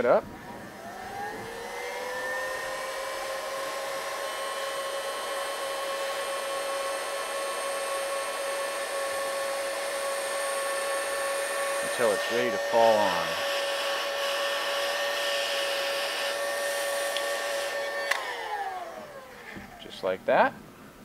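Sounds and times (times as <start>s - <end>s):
heat gun whining: 0.0s - 20.0s.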